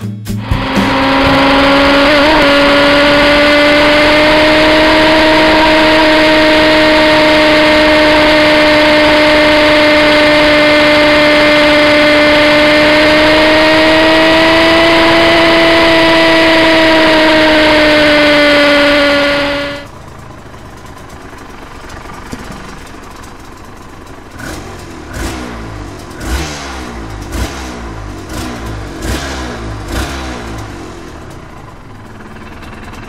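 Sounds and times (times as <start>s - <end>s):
motorcycle engine at high revs: 0.4s - 33.0s.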